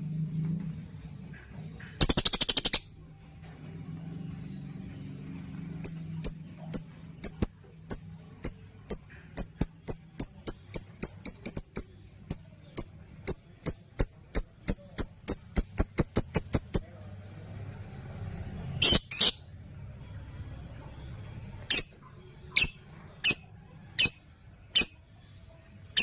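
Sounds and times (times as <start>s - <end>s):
faint low hum: 0.0s - 26.0s
lovebird chirping: 0.7s - 3.1s, 4.3s - 17.0s, 18.6s - 19.6s, 20.8s - 26.0s.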